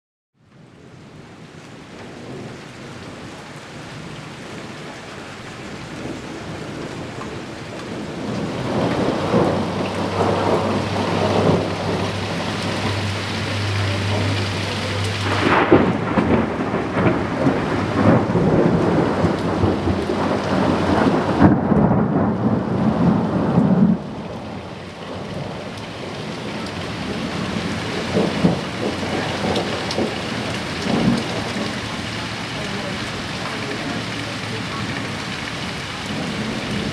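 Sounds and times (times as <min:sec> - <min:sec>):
heavy rain: 0:00.4 - 0:36.9
thunder rumbling and crackling: 0:01.7 - 0:36.9.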